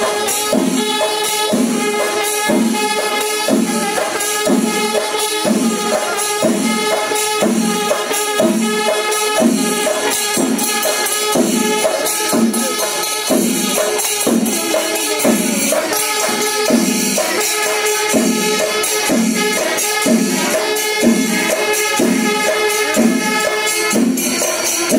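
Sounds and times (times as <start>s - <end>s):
drums beating: 0.0s - 24.9s
jingling cymbals: 0.0s - 24.9s.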